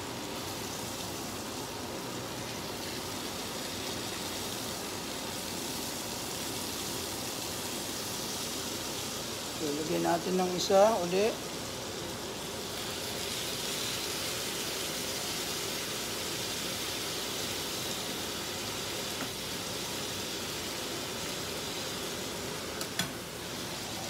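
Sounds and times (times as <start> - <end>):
steak sizzling in a frying pan: 0.0 - 24.0.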